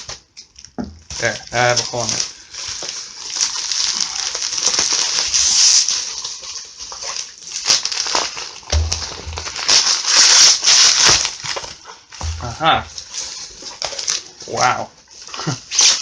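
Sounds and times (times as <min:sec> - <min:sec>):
plastic bag tearing and rustling: 0:01.2 - 0:14.4, 0:15.2 - 0:16.0.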